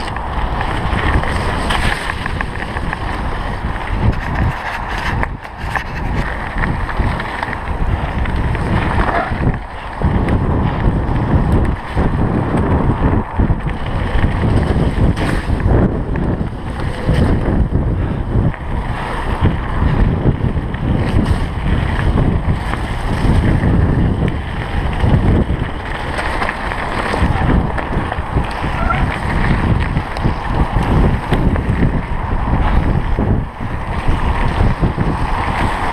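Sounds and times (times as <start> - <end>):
bike tyres rumbling over dirt: 0.0 - 35.9
wind buffeting microphone: 0.0 - 35.9.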